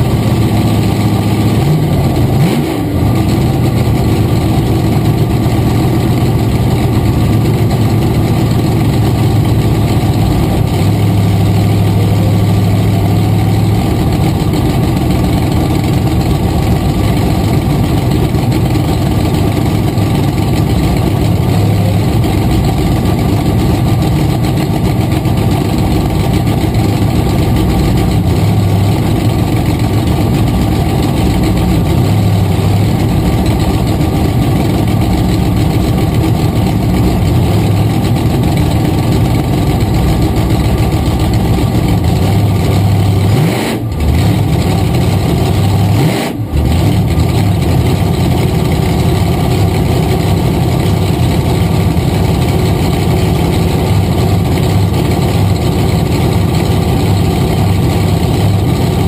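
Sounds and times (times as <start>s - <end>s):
car engine idling: 0.0s - 59.0s
engine revving: 0.0s - 59.0s.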